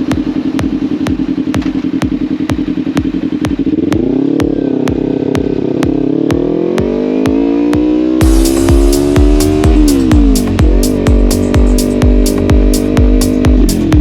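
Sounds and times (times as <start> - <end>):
electronic music with fast beat: 0.0 - 14.0
motorcycle engine accelerating: 0.0 - 14.0.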